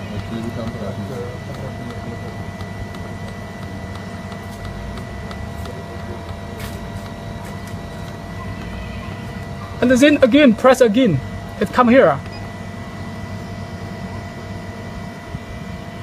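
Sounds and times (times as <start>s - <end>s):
machinery hum: 0.0s - 16.0s
thin high whine: 0.0s - 16.0s.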